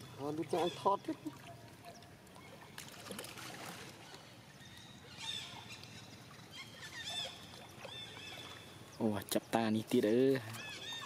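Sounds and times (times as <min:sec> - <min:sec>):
water sloshing and dripping: 0:00.2 - 0:11.0.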